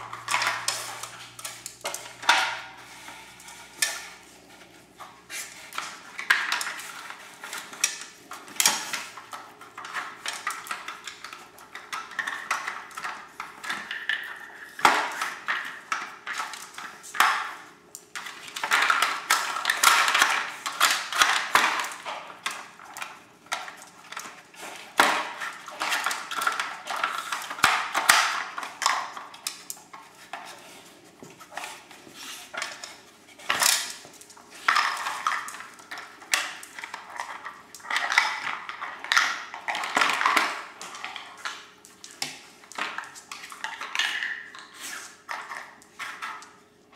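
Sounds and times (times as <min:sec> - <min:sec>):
plastic toy pieces clattering on tile: 0:00.0 - 0:04.2, 0:05.7 - 0:30.6, 0:32.5 - 0:46.5.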